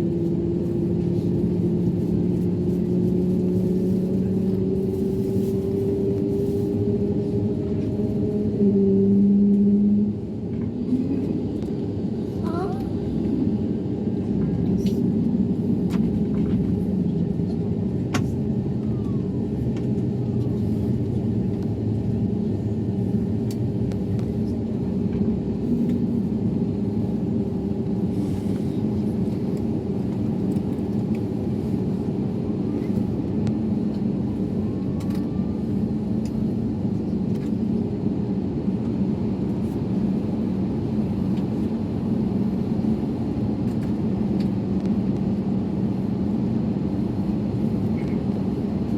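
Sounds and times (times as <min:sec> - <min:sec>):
airliner engine rumble: 0:00.0 - 0:48.9.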